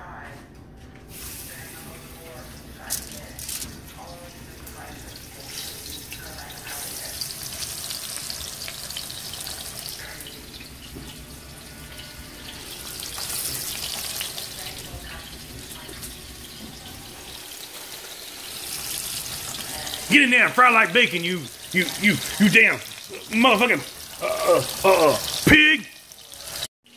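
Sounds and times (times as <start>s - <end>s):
oil sizzling in a skillet: 1.1s - 26.9s.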